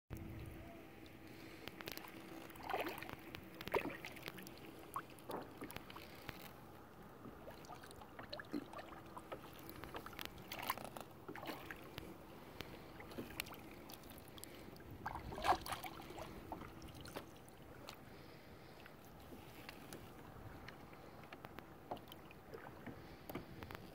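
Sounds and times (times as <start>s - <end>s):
faint steady hum: 0.1s - 23.9s
paddle splashing in water: 1.3s - 23.9s.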